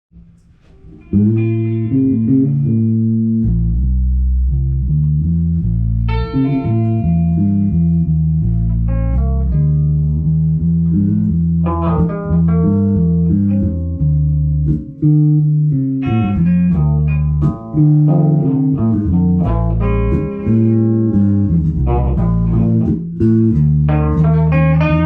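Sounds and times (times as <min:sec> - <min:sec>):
low bass line: 0:00.1 - 0:25.0
plucked guitar notes: 0:00.2 - 0:25.0.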